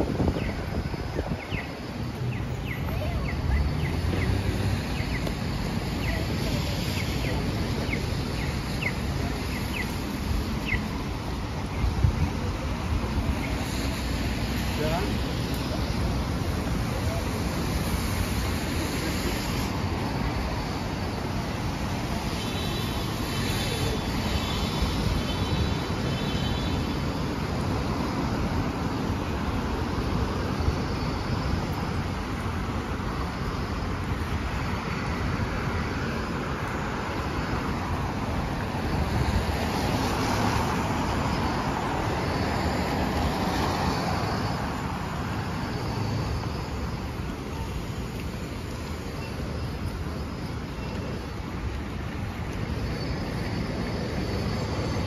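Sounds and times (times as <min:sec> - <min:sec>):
vehicle engines: 0:00.0 - 0:55.0
tyre hiss on wet road: 0:03.7 - 0:55.0.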